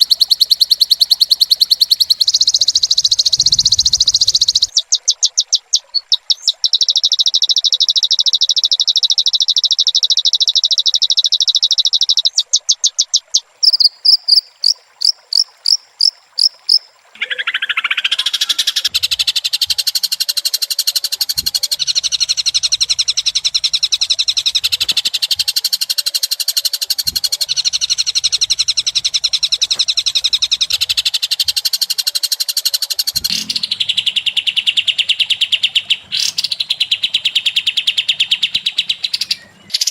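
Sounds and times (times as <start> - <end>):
songbird singing trills and whistles: 0.0 - 39.9.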